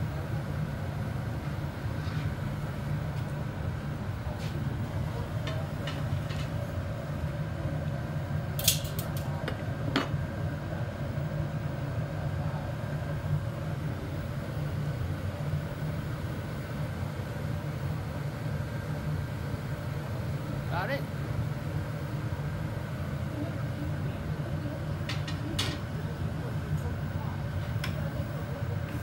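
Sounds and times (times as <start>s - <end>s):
furnace burners roaring: 0.0s - 29.0s.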